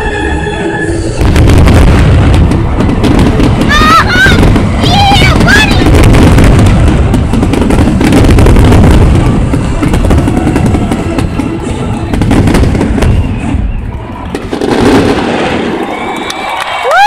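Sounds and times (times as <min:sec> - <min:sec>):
heavy low rumble: 0:00.0 - 0:15.2
fireworks bursting and crackling: 0:01.1 - 0:17.0.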